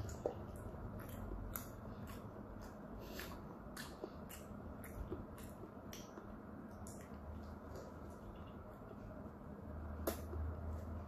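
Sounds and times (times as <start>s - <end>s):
close chewing with mouth smacks: 0.0s - 9.2s.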